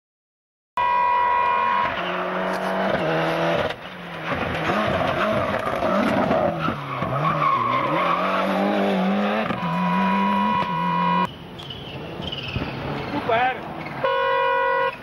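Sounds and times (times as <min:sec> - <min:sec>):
rally car engine revving: 0:01.4 - 0:14.0.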